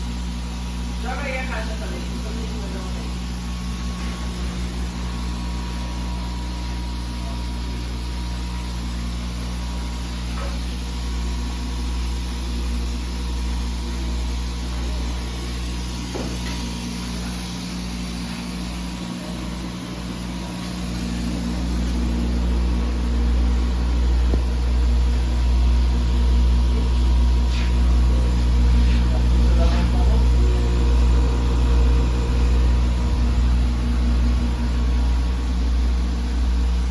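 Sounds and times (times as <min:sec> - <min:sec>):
mechanical hum with high tone: 0:00.0 - 0:36.9.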